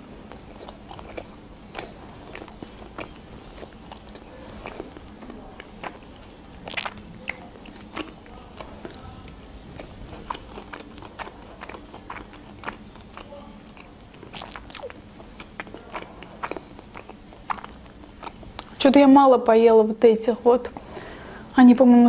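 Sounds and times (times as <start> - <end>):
person chewing with mouth clicks: 0.2 - 18.8.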